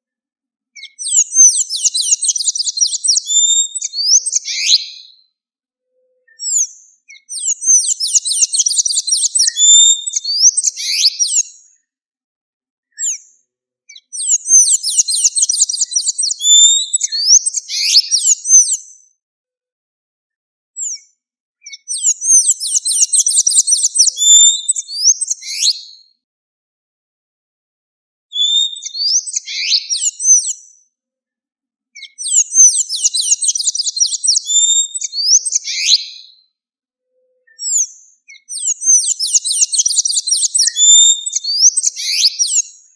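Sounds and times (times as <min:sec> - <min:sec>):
bird twittering song: 0:00.8 - 0:05.2, 0:05.9 - 0:11.8, 0:12.9 - 0:18.9, 0:20.8 - 0:26.1, 0:28.3 - 0:30.9, 0:32.0 - 0:36.4, 0:37.2 - 0:42.9.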